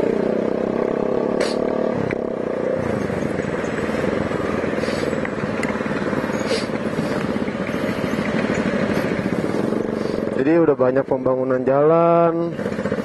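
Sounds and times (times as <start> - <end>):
motorcycle engine running loud: 0.0 - 13.0.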